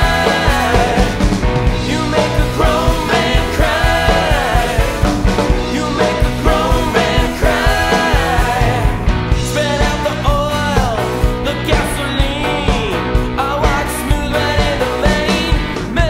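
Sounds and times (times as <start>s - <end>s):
lead singer singing: 0.0s - 16.0s
rock band playing live: 0.0s - 16.0s.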